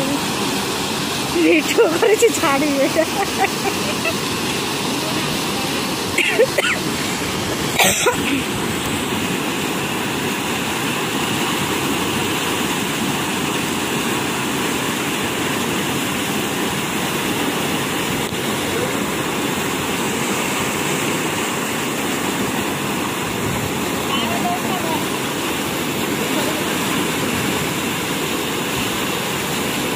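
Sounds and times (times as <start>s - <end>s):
water rushing through canal: 0.0s - 29.9s.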